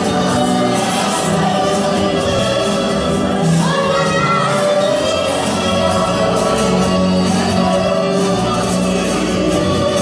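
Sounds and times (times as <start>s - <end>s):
dance music with singing: 0.0s - 10.0s.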